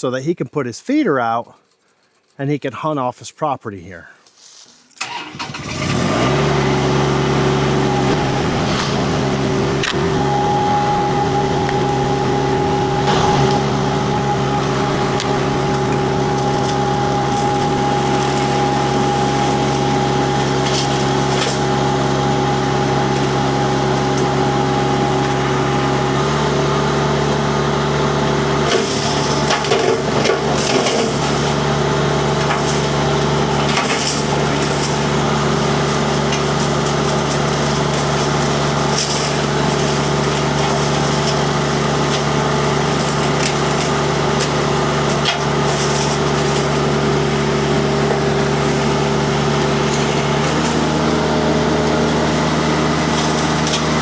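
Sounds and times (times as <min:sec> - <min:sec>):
diesel engine running: 0:05.0 - 0:54.0
spinning disc mulcher whine: 0:06.2 - 0:54.0.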